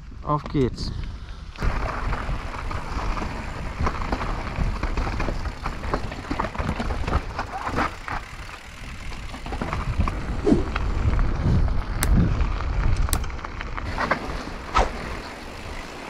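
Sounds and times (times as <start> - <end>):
wind rumble on microphone: 0.0 - 15.8
bike knocking and rattling: 0.4 - 16.0
tyres crunching over dirt: 1.6 - 16.0.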